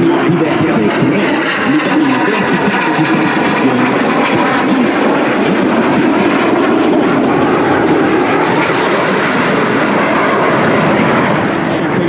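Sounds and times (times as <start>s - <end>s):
jets flying overhead: 0.0s - 12.0s.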